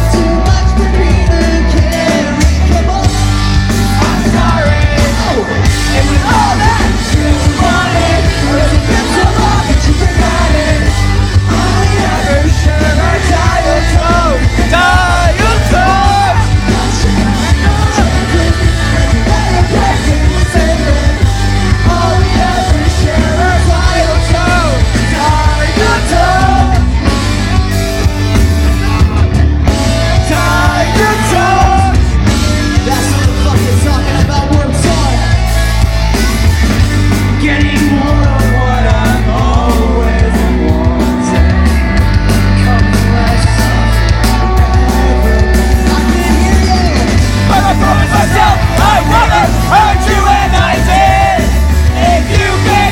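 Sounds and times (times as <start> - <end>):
person singing lead vocal: 0.0 - 52.9
pop-punk band playing live: 0.0 - 52.9.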